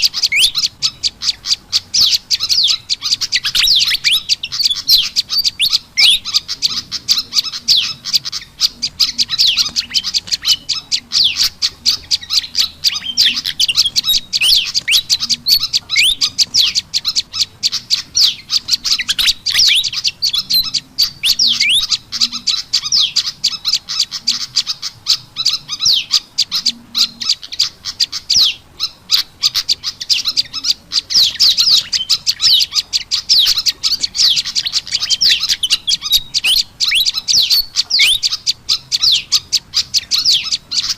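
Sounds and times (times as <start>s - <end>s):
birds rapid high chirps and trills: 0.0s - 40.9s.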